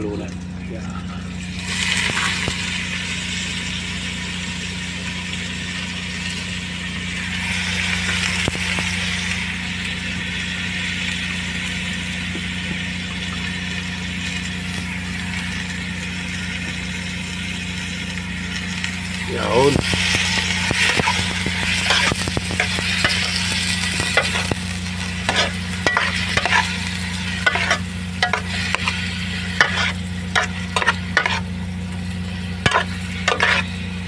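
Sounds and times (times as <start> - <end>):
low motor hum: 0.0 - 34.0
food sizzling in hot oil: 0.3 - 34.0.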